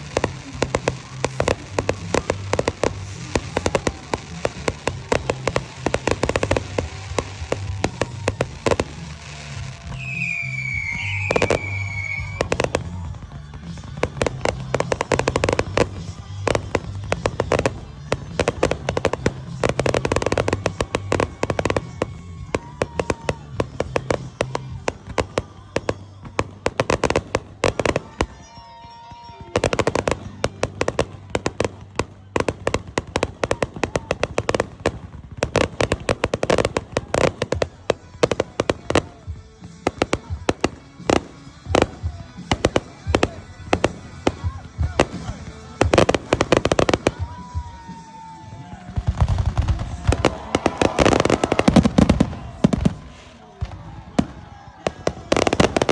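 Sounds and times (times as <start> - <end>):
music with steady bass: 0.0 - 28.4, 29.5 - 47.9
firework whistle: 0.0 - 55.9
fireworks crackling and banging: 0.0 - 55.9.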